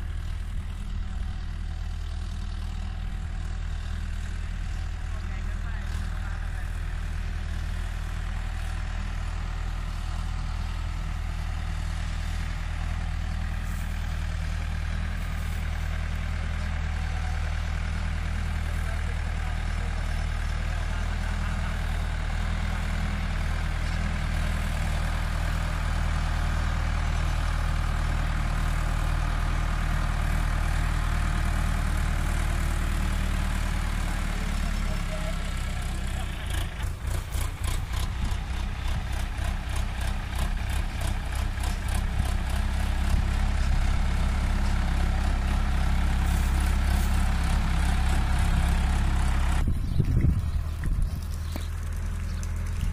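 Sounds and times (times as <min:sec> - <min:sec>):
diesel engines droning: 0:00.0 - 0:52.9.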